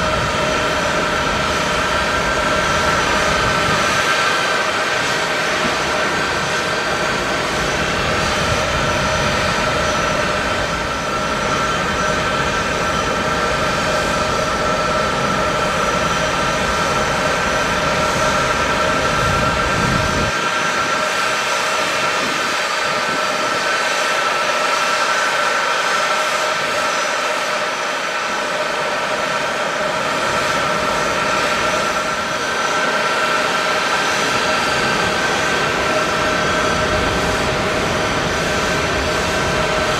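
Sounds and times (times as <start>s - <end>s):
high jet whine: 0.0s - 39.9s
jet engines roaring: 0.0s - 39.9s.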